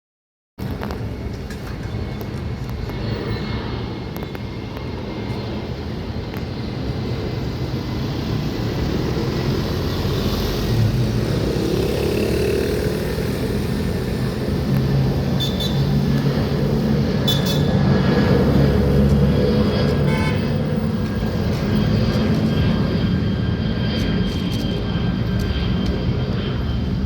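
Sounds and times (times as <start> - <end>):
jet engines rushing: 0.6 - 27.0.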